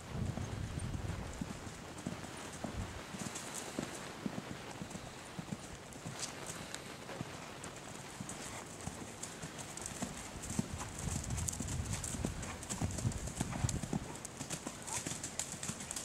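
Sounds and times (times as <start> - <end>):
horse trotting on sand: 0.0 - 16.0.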